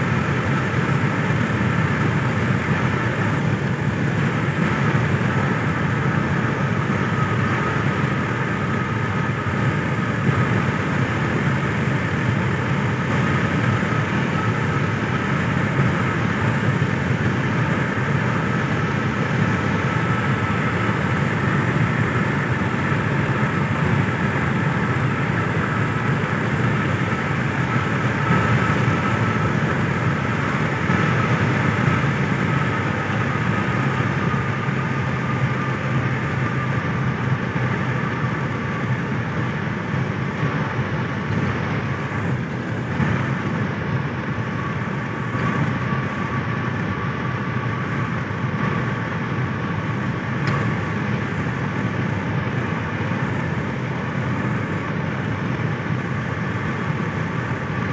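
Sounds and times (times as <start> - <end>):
engine and tyres rumbling: 0.0 - 57.9
faint thin whine: 0.0 - 57.9.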